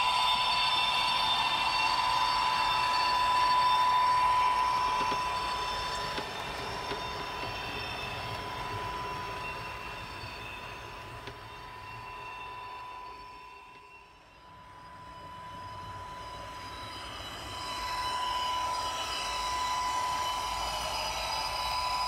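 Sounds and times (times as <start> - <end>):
model train high whine: 0.0 - 22.0.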